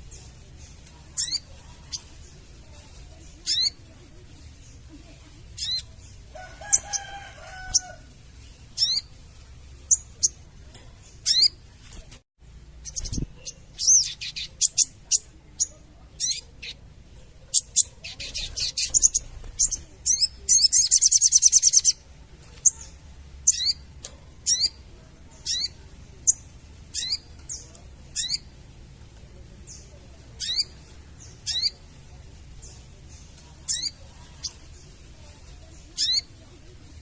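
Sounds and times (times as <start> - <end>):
bird chattering rattle: 0.0 - 8.1, 8.7 - 11.7, 12.8 - 28.9, 29.7 - 37.0.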